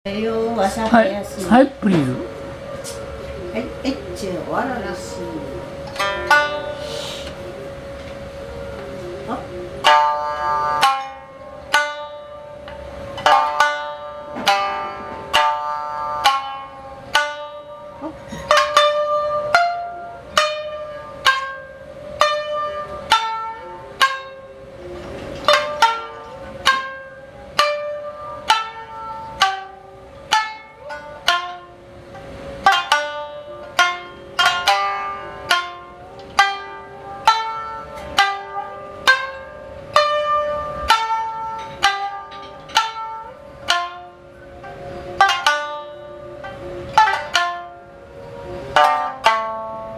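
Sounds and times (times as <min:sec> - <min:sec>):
plucked string notes: 0:00.1 - 0:49.9.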